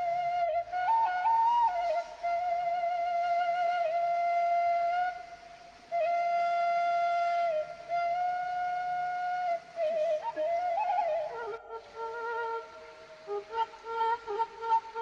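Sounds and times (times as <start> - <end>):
flute-like melody: 0.0 - 15.0.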